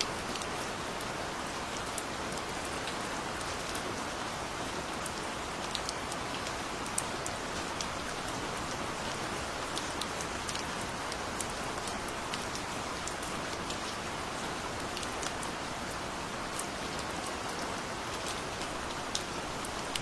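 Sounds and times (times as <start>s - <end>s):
gentle rain hiss: 0.0s - 20.0s
raindrops ticking on surface: 0.0s - 20.0s.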